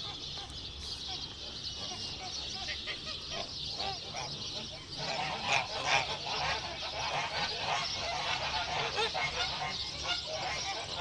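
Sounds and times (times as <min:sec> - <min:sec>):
geese honking: 0:01.8 - 0:11.0.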